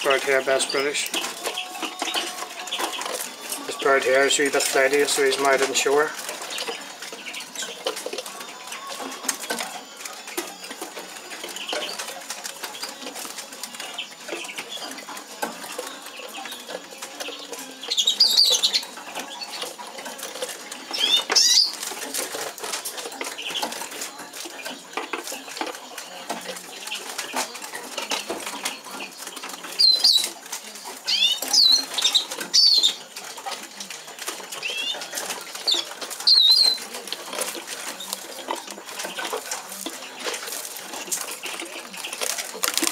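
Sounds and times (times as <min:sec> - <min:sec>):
birds fluttering in cages: 0:00.0 - 0:42.9.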